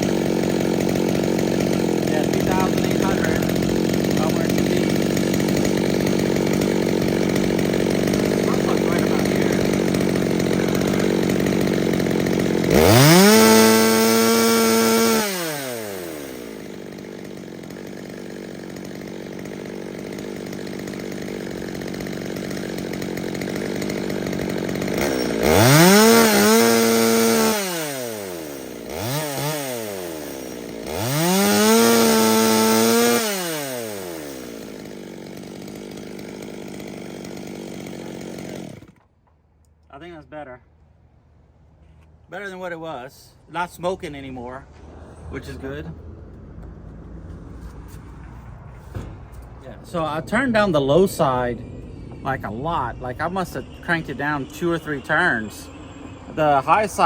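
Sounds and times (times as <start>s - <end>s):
chainsaw idling and revving: 0.0s - 39.1s, 42.4s - 57.0s.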